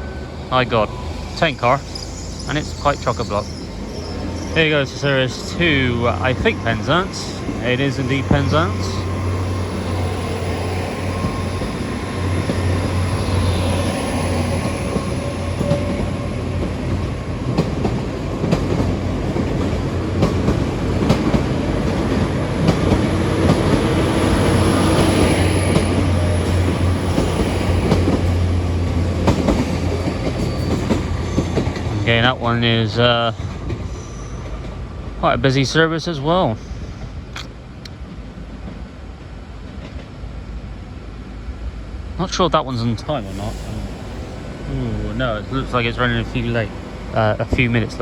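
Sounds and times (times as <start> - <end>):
diesel train engine hum: 0.0 - 48.0
train wheels clicking on rail joints: 0.1 - 40.3, 42.6 - 48.0.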